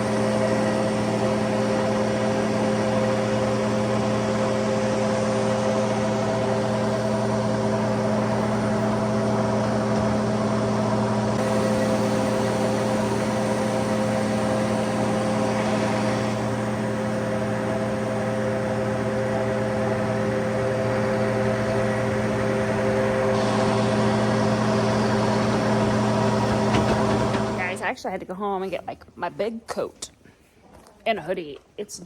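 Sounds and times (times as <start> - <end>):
vehicle engine droning: 0.0 - 27.8.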